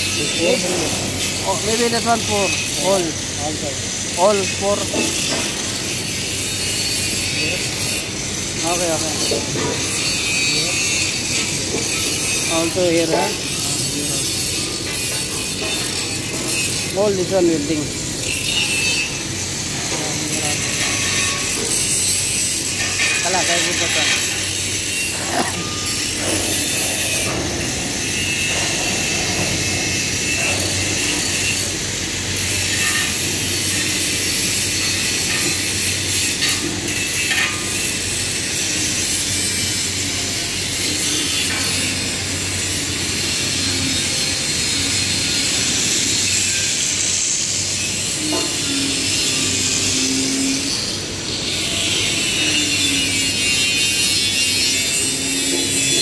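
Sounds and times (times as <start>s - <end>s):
high-pitched machinery noise: 0.0s - 56.0s.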